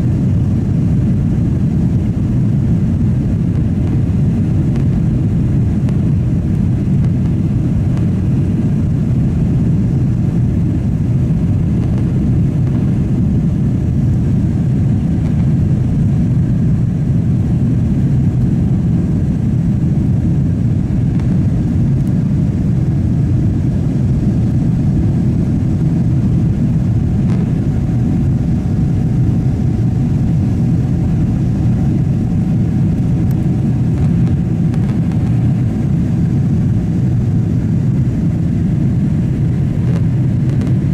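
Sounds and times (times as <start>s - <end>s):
jet engine rumble inside cabin: 0.0s - 40.9s.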